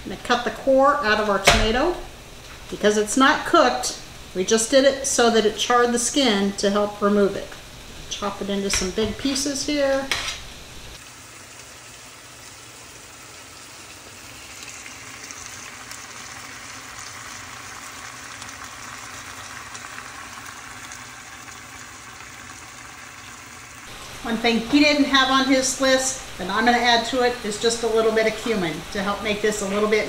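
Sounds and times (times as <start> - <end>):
chicken sizzling in a skillet: 5.6 - 30.0.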